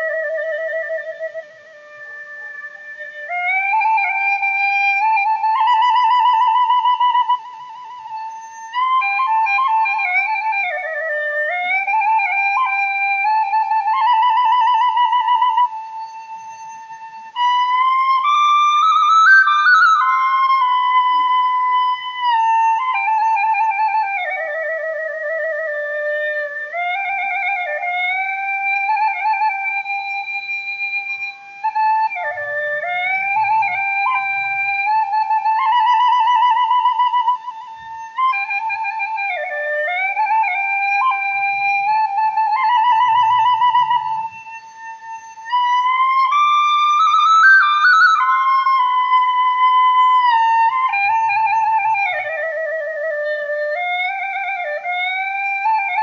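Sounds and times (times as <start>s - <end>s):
slow flute-like melody: 0.0s - 56.0s.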